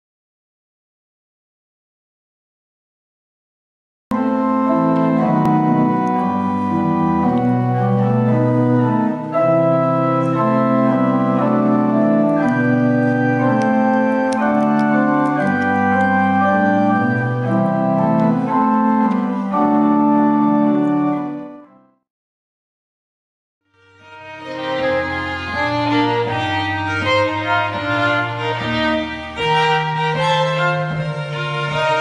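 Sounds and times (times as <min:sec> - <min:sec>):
pipe organ chords: 0:04.1 - 0:21.9, 0:23.8 - 0:32.0.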